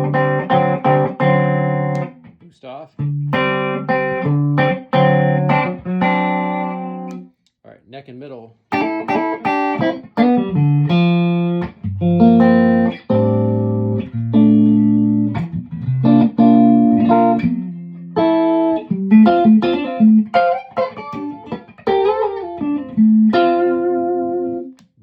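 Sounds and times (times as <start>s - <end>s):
electric guitar chords and notes: 0.0s - 7.3s, 8.7s - 25.0s.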